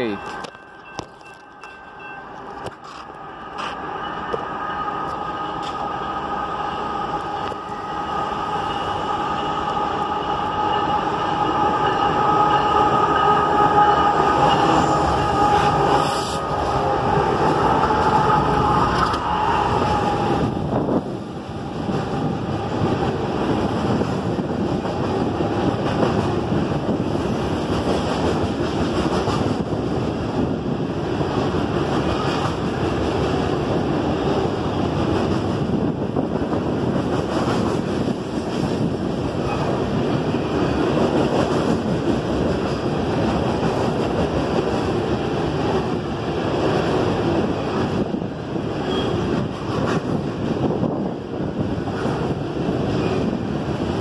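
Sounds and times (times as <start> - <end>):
diesel locomotives passing: 0.0 - 54.0
wheels rumbling on rail: 0.0 - 54.0.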